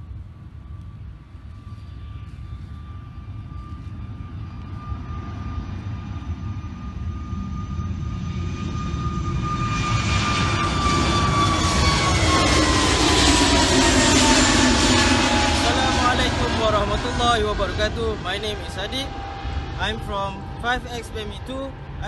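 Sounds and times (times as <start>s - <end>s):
airplane engine whine: 0.0s - 22.0s.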